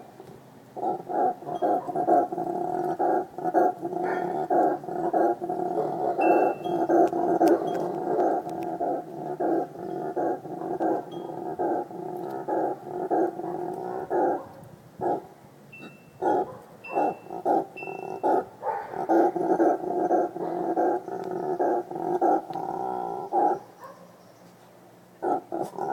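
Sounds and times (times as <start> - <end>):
howler monkey howling: 0.8 - 14.4, 15.0 - 15.3, 16.2 - 23.6, 25.2 - 25.9.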